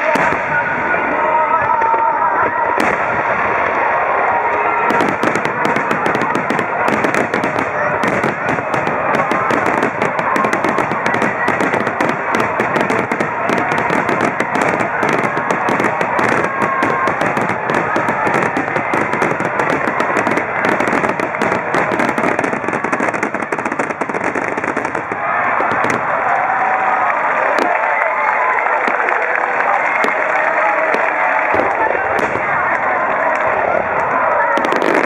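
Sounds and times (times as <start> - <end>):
fireworks bangs and crackle: 0.0 - 35.0.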